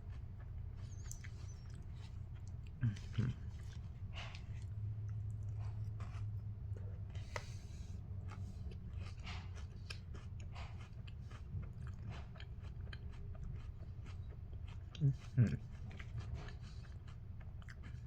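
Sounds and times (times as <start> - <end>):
chewing crunchy cereal: 0.0 - 18.0
low steady hum: 0.0 - 18.0.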